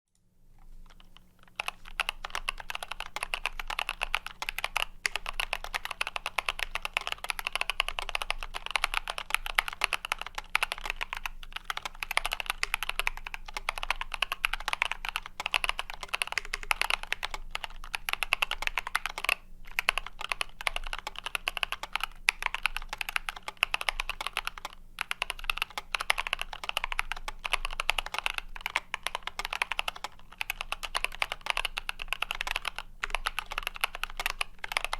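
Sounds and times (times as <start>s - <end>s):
fast mechanical keyboard typing: 0.8s - 34.9s.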